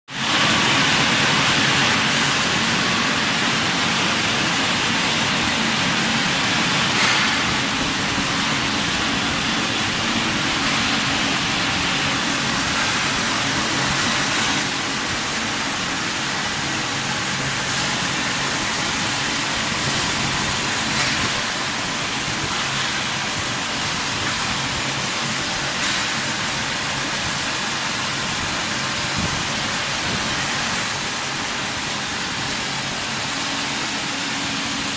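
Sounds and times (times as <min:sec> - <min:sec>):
steady welding hiss: 0:00.1 - 0:34.9
low machine hum: 0:00.2 - 0:34.9.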